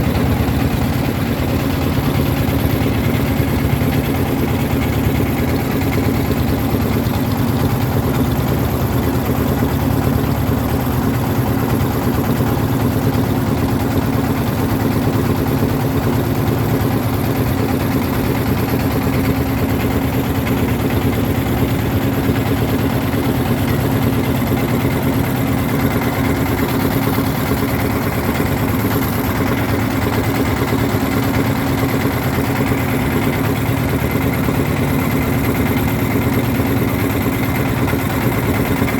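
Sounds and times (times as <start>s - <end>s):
motor boat engine running: 0.0s - 38.9s.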